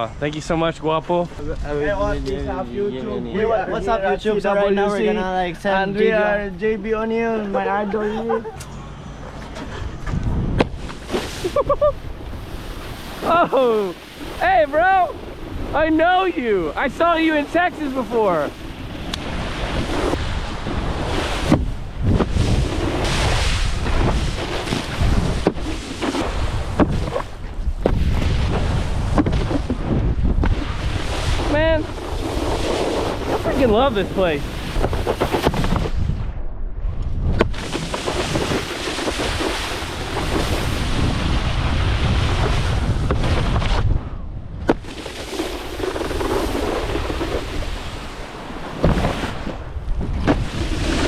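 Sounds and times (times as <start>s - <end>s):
wind buffeting microphone: 9.2s - 51.0s.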